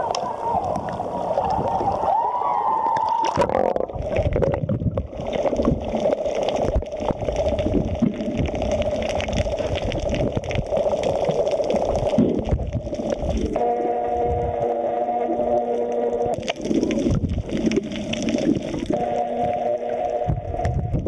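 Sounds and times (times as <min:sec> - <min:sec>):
steady underwater hum: 0:00.0 - 0:21.0
water gurgling underwater: 0:00.0 - 0:21.0.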